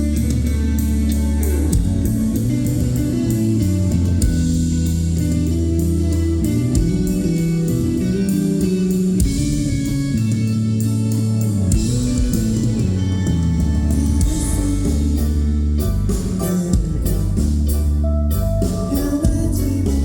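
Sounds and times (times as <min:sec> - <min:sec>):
bass guitar: 0:00.0 - 0:20.0
drum kit: 0:00.0 - 0:20.0
electric guitars: 0:00.0 - 0:20.0.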